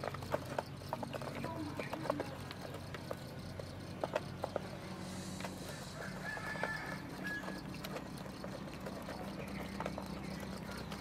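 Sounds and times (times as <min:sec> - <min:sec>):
bills pecking clicks: 0:00.0 - 0:11.0
ducklings peeping: 0:00.0 - 0:11.0
steady low hum: 0:00.0 - 0:11.0.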